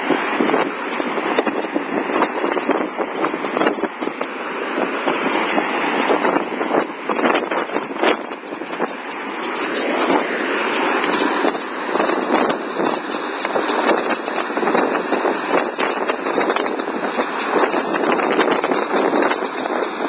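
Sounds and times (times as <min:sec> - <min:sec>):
waterfall rushing and splashing: 0:00.0 - 0:20.0.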